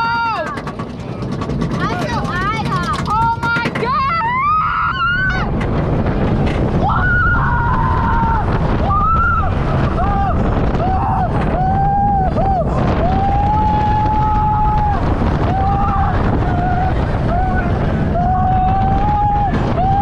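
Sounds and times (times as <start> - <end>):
roller coaster riders screaming: 0.0 - 20.0
wind buffeting microphone: 0.0 - 20.0.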